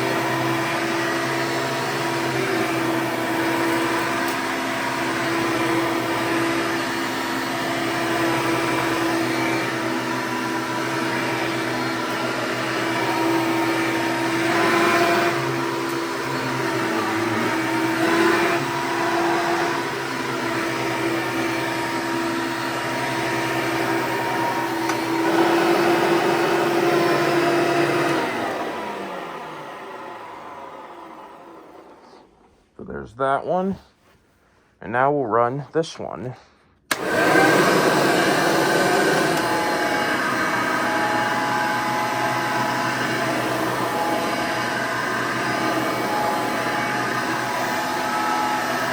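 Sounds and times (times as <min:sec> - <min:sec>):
vacuum cleaner running: 0:00.0 - 0:32.5, 0:36.9 - 0:48.9.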